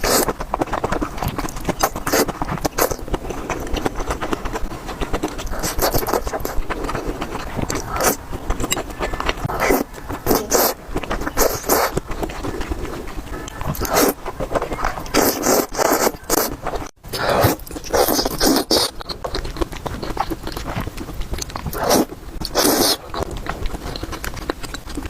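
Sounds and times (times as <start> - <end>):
noodles slurped: 0.0 - 25.0
wet chewing: 0.0 - 25.0.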